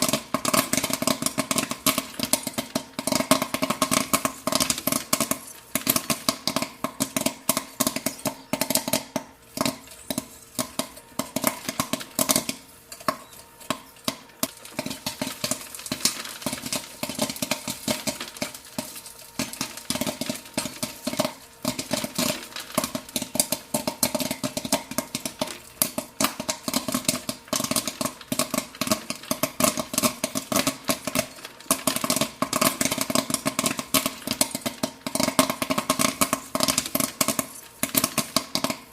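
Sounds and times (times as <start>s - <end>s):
popcorn popping: 0.0s - 38.9s.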